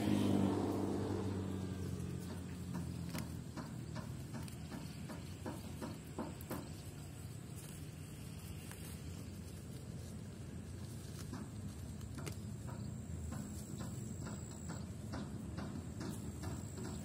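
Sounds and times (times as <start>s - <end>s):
cow tearing dry stalks: 0.0s - 14.5s
vehicle engine: 0.0s - 17.0s.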